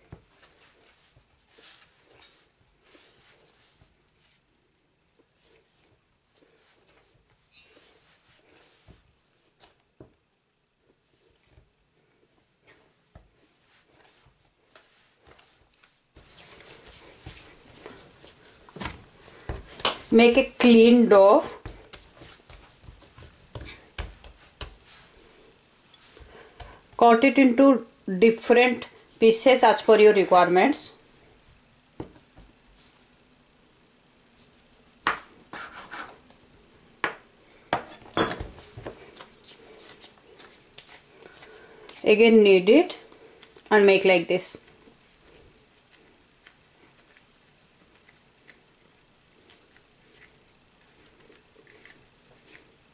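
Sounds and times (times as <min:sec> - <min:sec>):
dough kneaded on countertop: 0:00.0 - 0:52.9.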